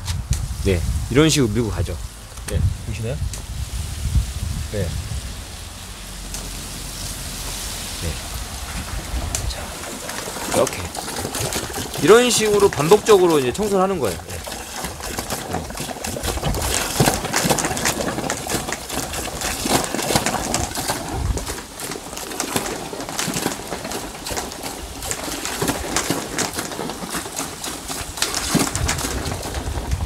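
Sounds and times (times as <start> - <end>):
water and air sputtering from hose: 0.0 - 30.0.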